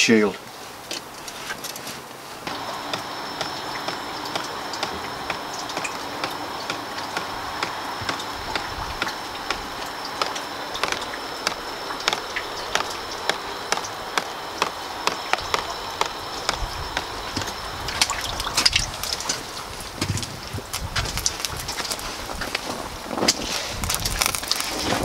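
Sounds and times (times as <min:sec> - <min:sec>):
wood fire crackling and popping: 0:00.8 - 0:25.0
fire hiss: 0:02.0 - 0:25.0.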